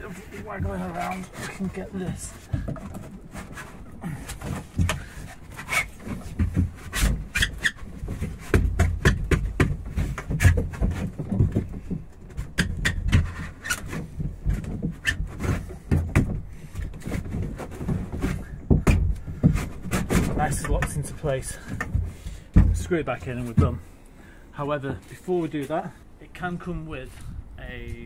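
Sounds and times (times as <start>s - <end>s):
knocks and thumps in kayak: 0.0s - 23.9s
plastic rubbing on hull: 0.0s - 23.9s.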